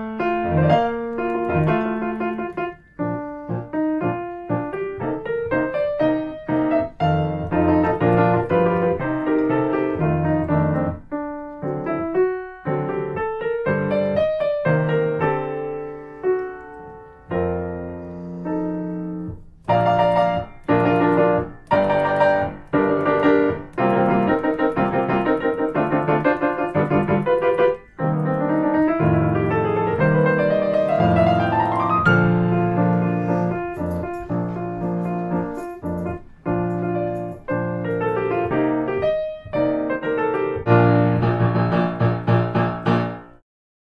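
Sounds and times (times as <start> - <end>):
solo piano music: 0.0 - 43.4.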